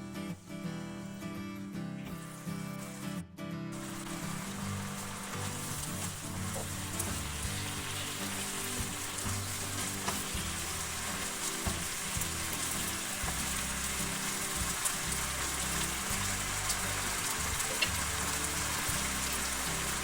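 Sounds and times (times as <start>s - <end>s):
background music: 0.0s - 20.0s
food sizzling in hot oil: 3.8s - 20.0s.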